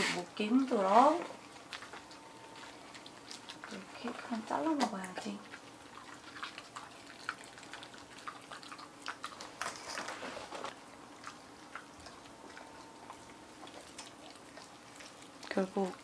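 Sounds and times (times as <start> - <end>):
dogs chewing: 0.0 - 16.0.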